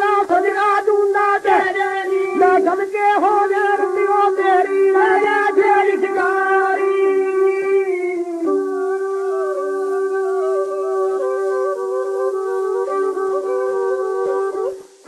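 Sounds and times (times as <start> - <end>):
old record music with sliding melody: 0.0 - 15.0.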